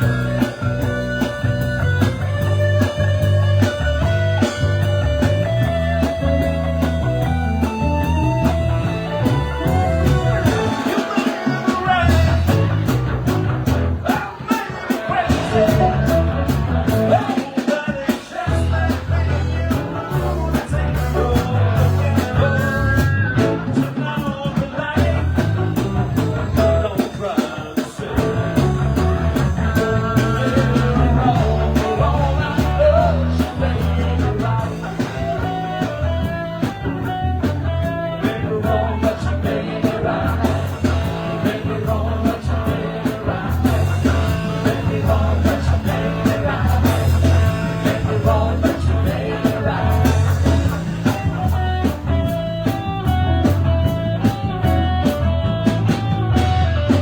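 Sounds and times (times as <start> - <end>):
live rock band playing: 0.0 - 57.0
person singing: 3.4 - 13.0, 14.0 - 52.1.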